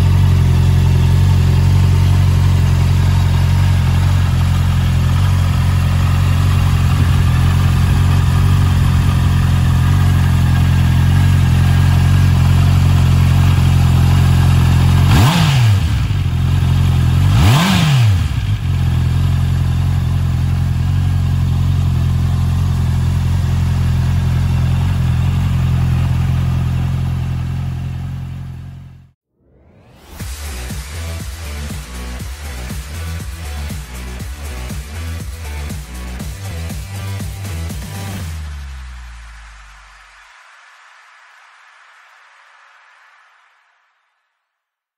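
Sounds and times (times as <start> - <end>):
motorcycle engine idling and revving: 0.0 - 29.2, 29.9 - 39.9.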